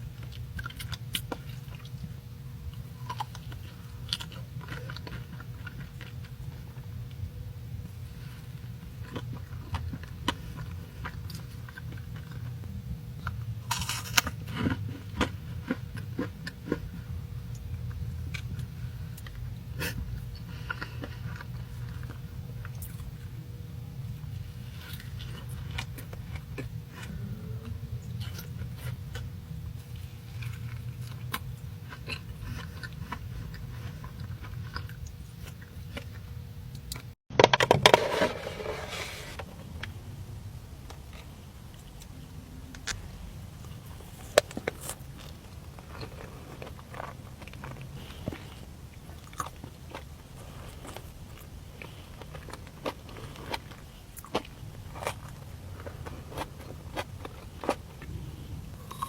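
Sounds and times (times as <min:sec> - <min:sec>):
chewing crunchy pastries: 0:00.0 - 0:37.2, 0:40.8 - 0:59.0
steady low hum: 0:00.0 - 0:59.0.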